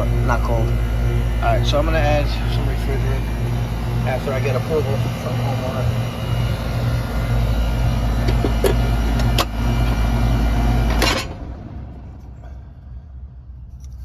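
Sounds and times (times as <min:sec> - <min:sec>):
air conditioner compressor and fan hum: 0:00.0 - 0:14.0.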